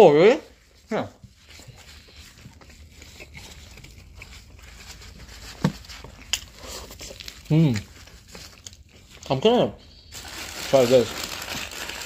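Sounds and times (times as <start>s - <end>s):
paper crinkling: 0.6s - 9.3s, 10.1s - 12.0s.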